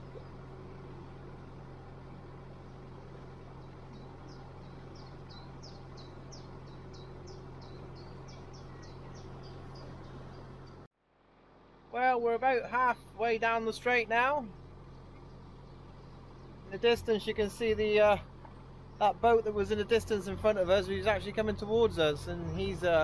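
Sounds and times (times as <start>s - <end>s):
songbird singing: 0.0s - 10.9s, 12.6s - 23.0s
boat diesel engine humming: 0.0s - 23.0s.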